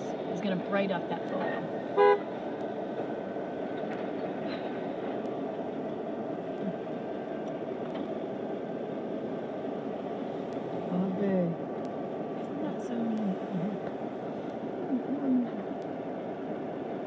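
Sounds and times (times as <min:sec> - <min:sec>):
diesel locomotives running: 0:00.0 - 0:17.0.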